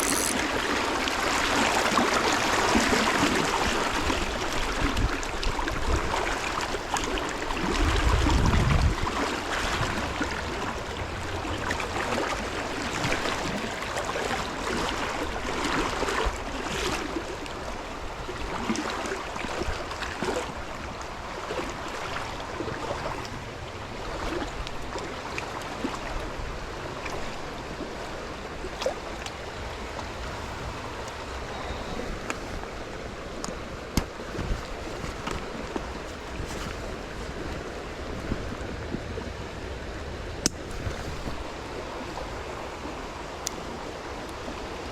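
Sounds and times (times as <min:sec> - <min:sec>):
stream water flowing: 0:00.0 - 0:44.9.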